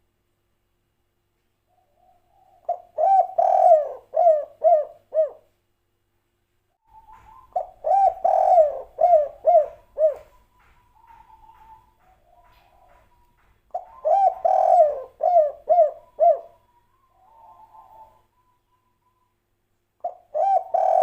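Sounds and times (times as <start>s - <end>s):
dove cooing: 1.7s - 5.5s, 6.8s - 19.0s, 20.0s - 21.0s.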